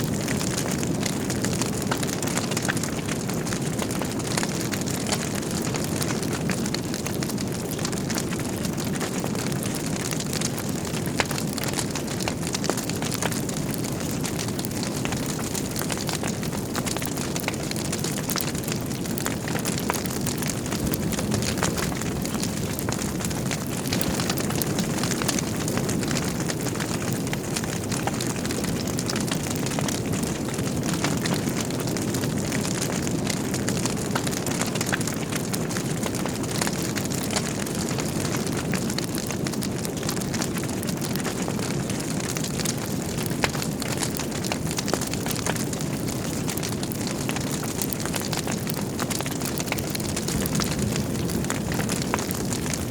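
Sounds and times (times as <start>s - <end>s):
fire flames rumbling: 0.0s - 52.9s
logs crackling and popping: 0.0s - 52.9s.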